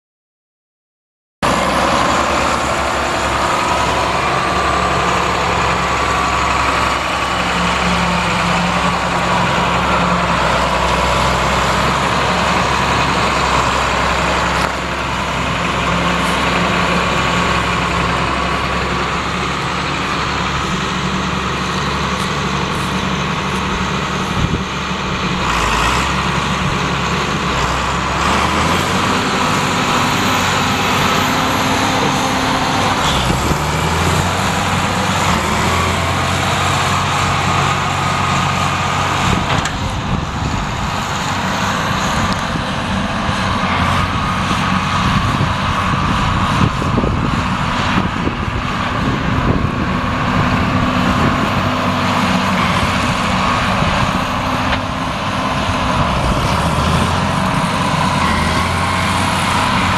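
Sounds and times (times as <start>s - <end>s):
tractor diesel engine idling: 1.4s - 59.9s.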